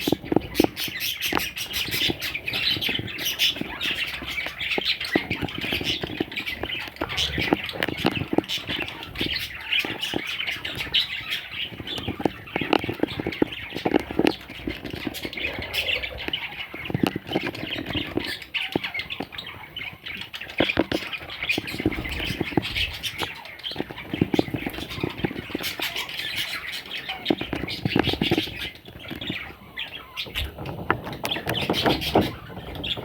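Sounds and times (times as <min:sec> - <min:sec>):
baby budgerigars squawking: 0:00.0 - 0:33.0
small clicks and scratches: 0:00.0 - 0:33.0.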